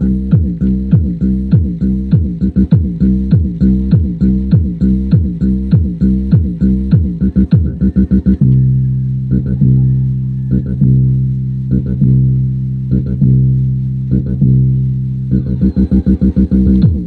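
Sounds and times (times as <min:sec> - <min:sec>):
bass-heavy music through speaker: 0:00.0 - 0:17.0.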